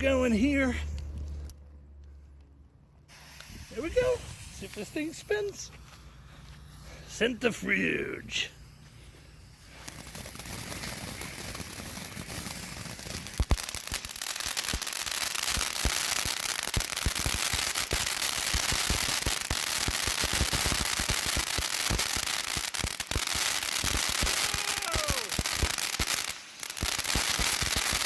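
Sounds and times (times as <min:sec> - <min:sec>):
firework crackling pops: 0:03.1 - 0:28.0
firework sparks hissing: 0:03.1 - 0:28.0.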